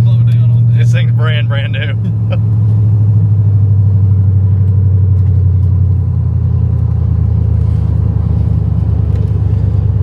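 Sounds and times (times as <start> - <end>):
engine exhaust drone: 0.0 - 10.0.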